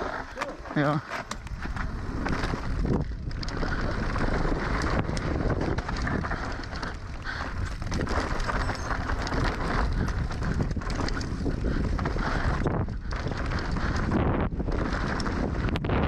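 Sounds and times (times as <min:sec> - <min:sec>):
tyres rolling over gravel: 0:00.0 - 0:15.8
bike knocks and rattles: 0:00.0 - 0:16.0
wind rushing over microphone: 0:01.4 - 0:16.0.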